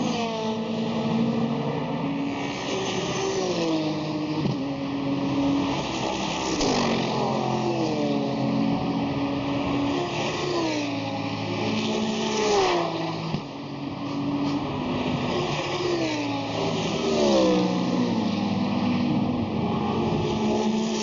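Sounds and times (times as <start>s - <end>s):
racing cars passing by: 0.0s - 21.0s.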